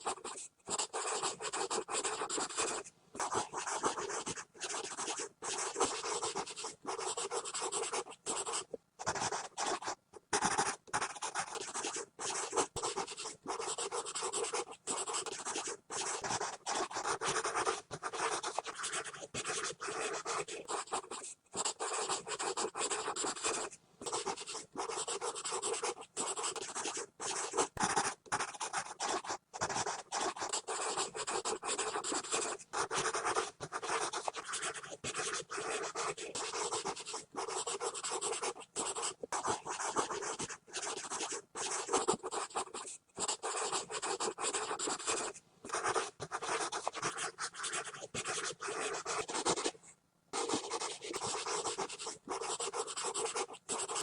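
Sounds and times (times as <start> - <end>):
pencil scribbling on paper: 0.0 - 49.8, 50.4 - 54.0.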